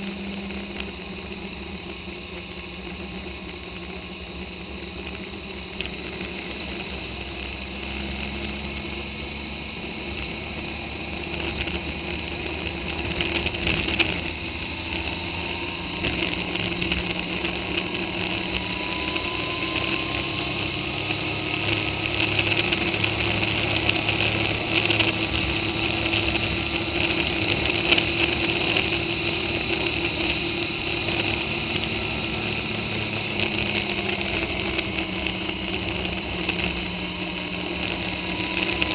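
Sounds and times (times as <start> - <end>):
high whine: 0.0 - 38.9
tyres on rough tarmac: 0.0 - 38.9
vehicle engine running: 0.0 - 38.9.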